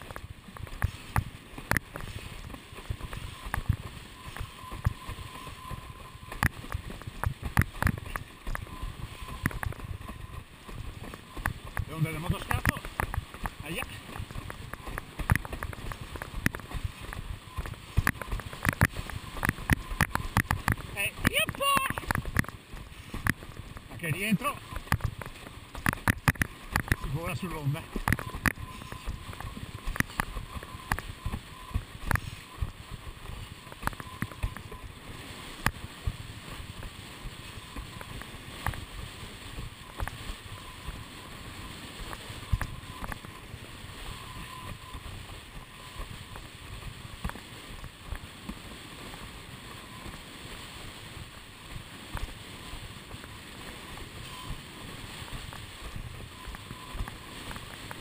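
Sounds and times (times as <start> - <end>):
rush of water and wind: 0.0 - 58.0.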